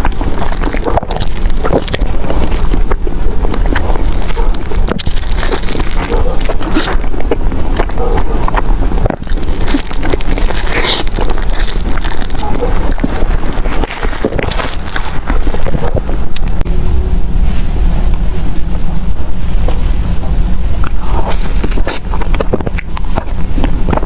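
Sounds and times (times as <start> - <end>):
wet chewing: 0.0 - 16.7, 18.1 - 20.0, 20.8 - 24.0.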